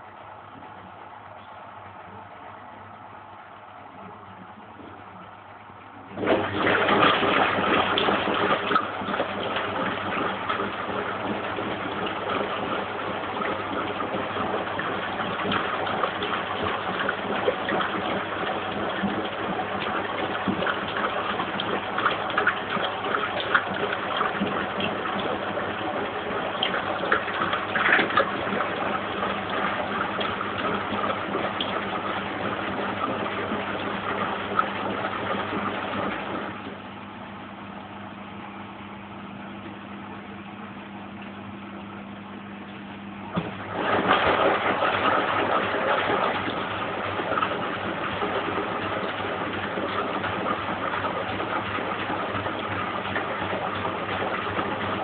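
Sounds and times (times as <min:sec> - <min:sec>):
water rushing and splashing: 0:00.0 - 0:36.8, 0:43.3 - 0:55.0
washing machine motor hum: 0:00.0 - 0:55.0.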